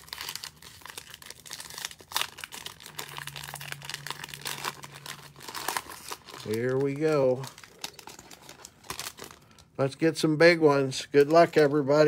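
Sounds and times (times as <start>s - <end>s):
plastic wrapper crinkling and tearing: 0.0s - 10.0s, 11.0s - 12.0s.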